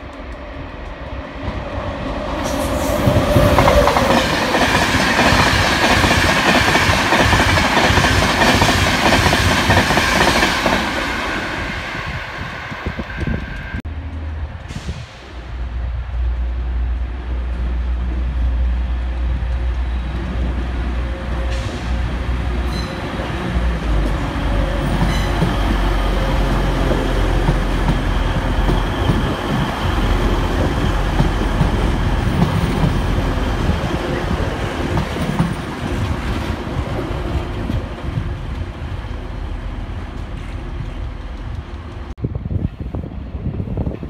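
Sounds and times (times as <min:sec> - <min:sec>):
diesel train passing: 0:00.0 - 0:44.0
wheels rumbling on rail: 0:00.0 - 0:44.0.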